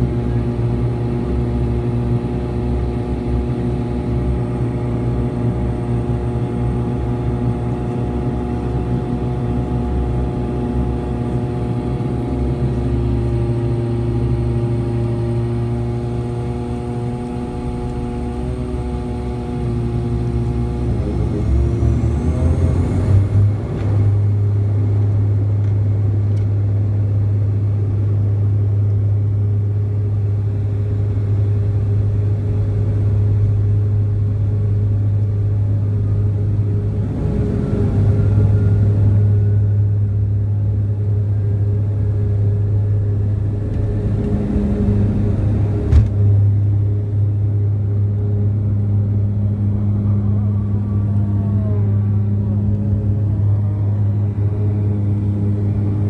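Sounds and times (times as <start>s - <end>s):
turboprop propeller drone: 0.0s - 56.0s.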